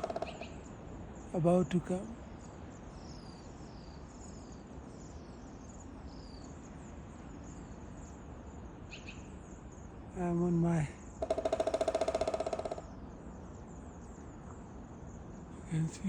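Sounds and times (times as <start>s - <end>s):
low background noise: 0.0s - 16.0s
songbirds chirping and singing: 0.0s - 16.0s.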